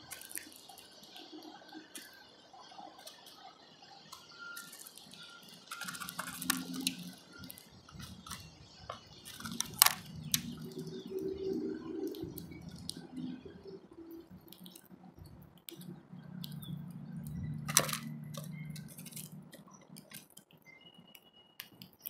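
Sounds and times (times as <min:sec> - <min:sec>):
beaks pecking at seed: 0:00.0 - 0:22.0.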